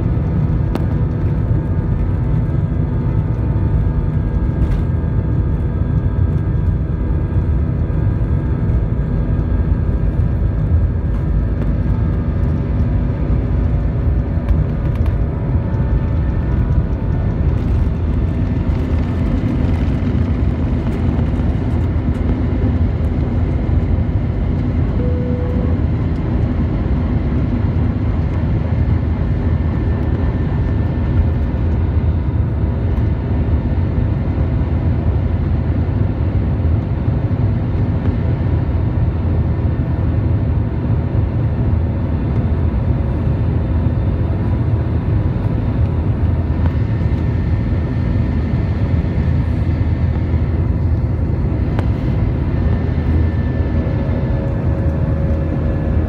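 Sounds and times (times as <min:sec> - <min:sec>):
jet engines at takeoff power: 0:00.0 - 0:56.0.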